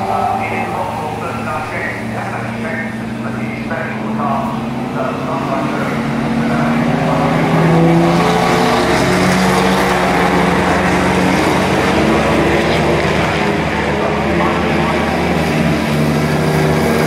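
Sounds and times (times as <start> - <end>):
racing car engines passing: 0.0 - 17.0
single car engine approaching: 0.0 - 17.0.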